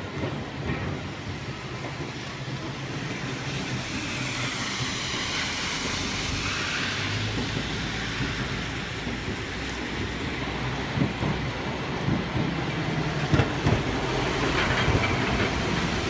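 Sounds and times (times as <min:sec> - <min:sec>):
rain and wet road hiss: 0:00.0 - 0:16.0
streetcar wheels and motor: 0:00.0 - 0:16.0.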